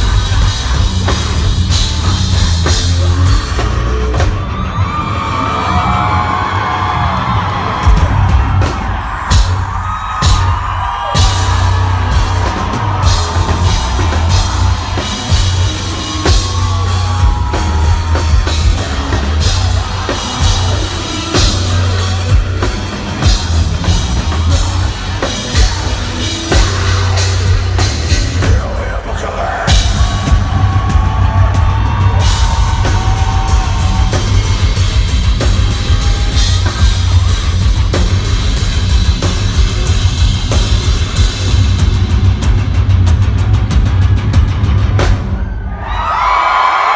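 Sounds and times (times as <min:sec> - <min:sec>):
heavy metal band playing live: 0:00.0 - 0:46.9
pounding drum kit: 0:00.0 - 0:46.9.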